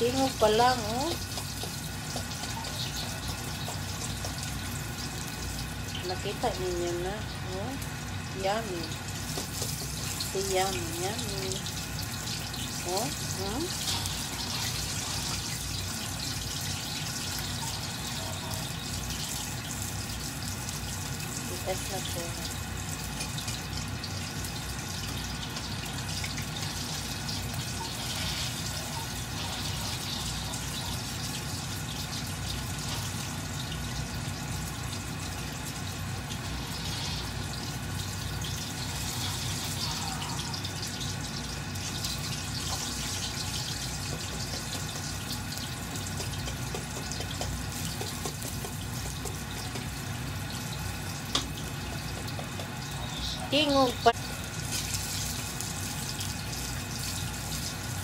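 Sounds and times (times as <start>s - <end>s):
meat deep-frying in hot oil: 0.0s - 58.0s.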